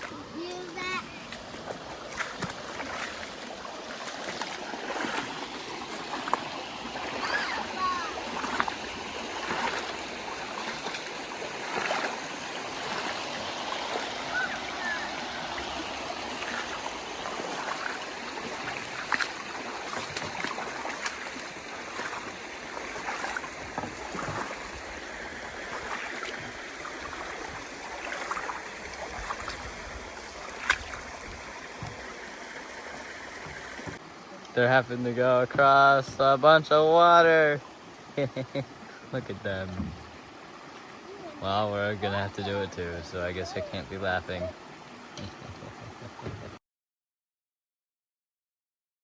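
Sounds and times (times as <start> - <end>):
rushing stream water: 0.0 - 46.6.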